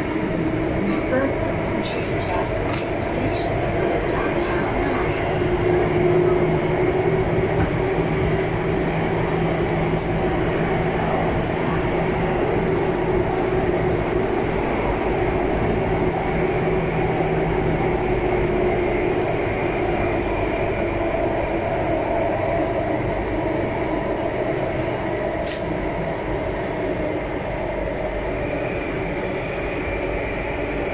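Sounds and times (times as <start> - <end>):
steady humming tones: 0.0 - 30.9
train wheels rumbling on rail: 0.0 - 30.9.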